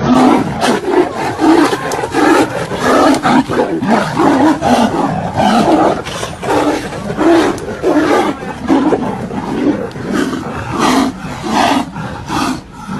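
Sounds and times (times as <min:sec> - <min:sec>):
animals roaring harshly: 0:00.0 - 0:12.9.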